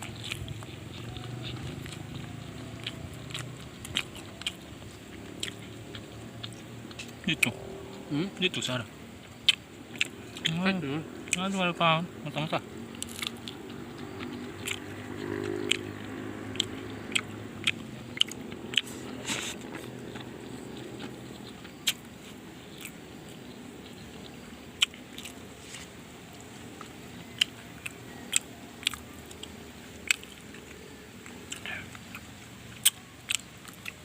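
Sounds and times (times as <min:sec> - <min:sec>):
chewing crunches: 0:00.0 - 0:34.0.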